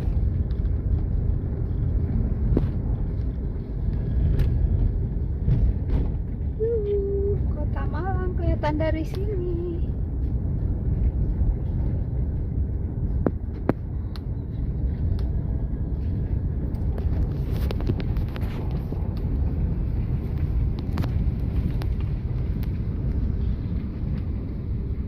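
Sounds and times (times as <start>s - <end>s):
vehicle driving rumble: 0.0s - 25.0s.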